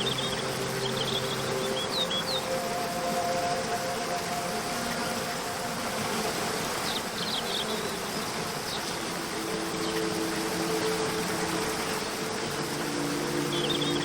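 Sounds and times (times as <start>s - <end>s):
soft background music: 0.0s - 14.0s
waterfall rushing: 0.0s - 14.0s.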